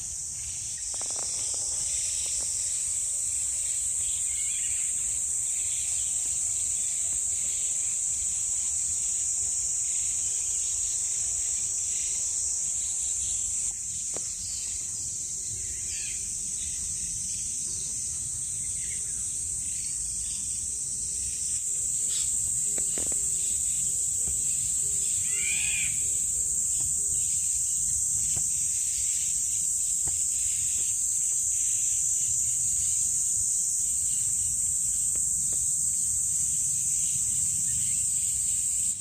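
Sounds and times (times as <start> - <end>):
insects buzzing: 0.0 - 39.0.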